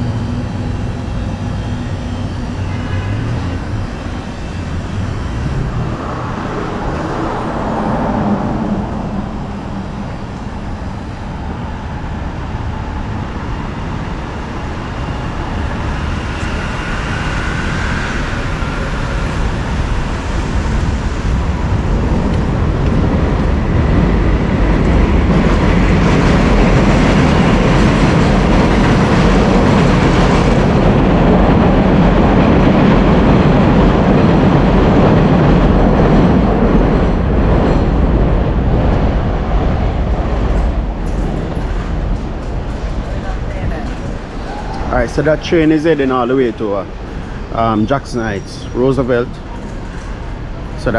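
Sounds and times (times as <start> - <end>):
elevated train rumbling: 0.0 - 50.9
street traffic: 0.0 - 50.9.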